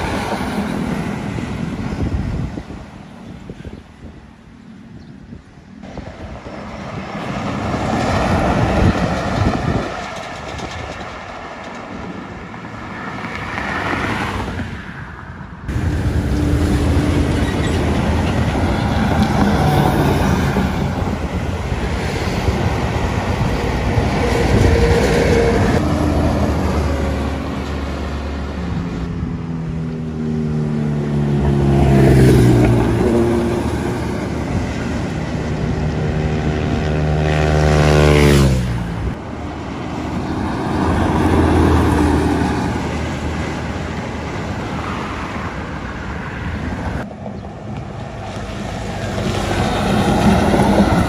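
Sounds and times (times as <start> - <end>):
coach buses passing: 0.0 - 51.0.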